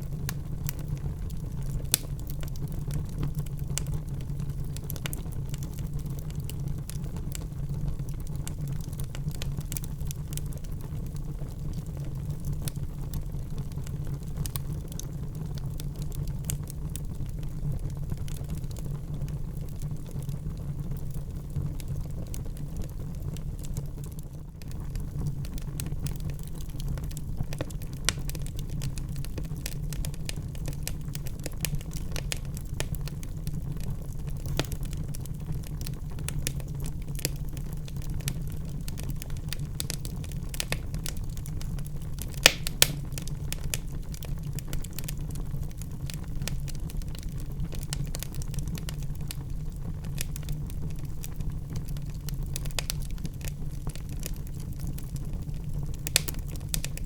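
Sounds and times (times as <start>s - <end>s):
fire popping: 0.0s - 57.0s
wood fire crackling: 0.0s - 57.0s.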